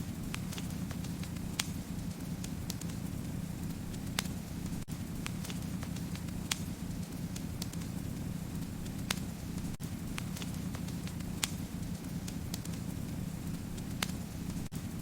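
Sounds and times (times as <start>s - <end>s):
low rumble of flame: 0.0s - 15.0s
wood fire crackling: 0.0s - 15.0s
sharp pops of fire: 0.1s - 15.0s.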